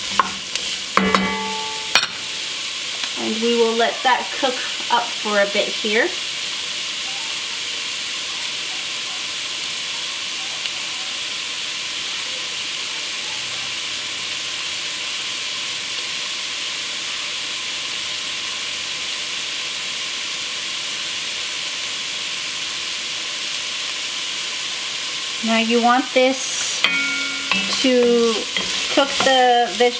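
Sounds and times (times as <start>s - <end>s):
vegetables sizzling in oil: 0.0s - 29.9s.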